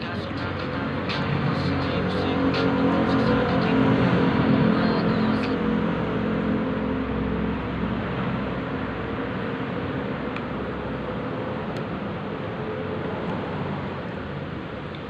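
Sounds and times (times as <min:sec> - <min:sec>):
traffic noise rushing: 0:00.0 - 0:15.0
vehicle engine hum: 0:00.0 - 0:15.0.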